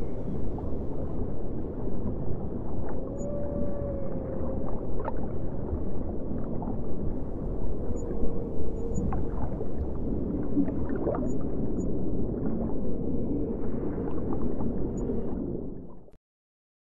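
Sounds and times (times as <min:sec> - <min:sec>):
muffled underwater rumble: 0:00.0 - 0:16.2
gliding whale-like tones: 0:02.5 - 0:16.1.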